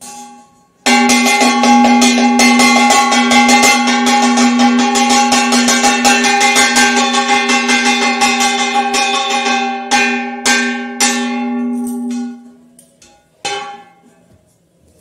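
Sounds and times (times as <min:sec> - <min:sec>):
metal gong struck with stick: 0:00.0 - 0:14.1.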